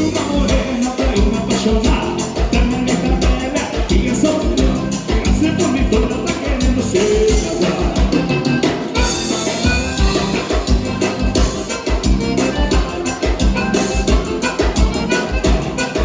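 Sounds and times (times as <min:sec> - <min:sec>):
bass: 0:00.0 - 0:16.0
drum kit beat: 0:00.0 - 0:16.0
lead melody: 0:00.0 - 0:16.0.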